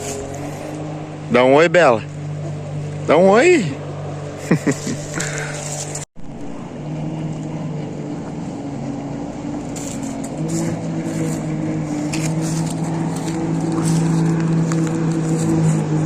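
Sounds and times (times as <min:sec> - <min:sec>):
engine droning hum: 0:00.0 - 0:16.0.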